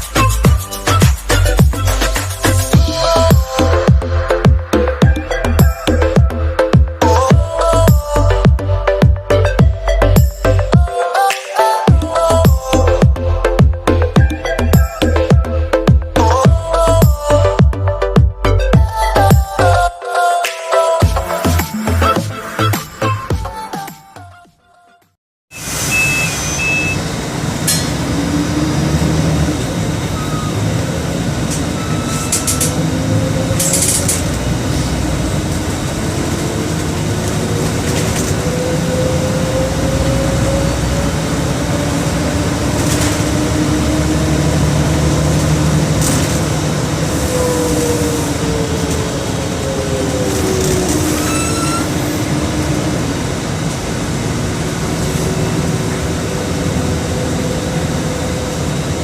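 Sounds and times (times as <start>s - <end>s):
bus diesel engine: 0.0s - 11.0s, 11.9s - 20.0s, 25.6s - 59.0s.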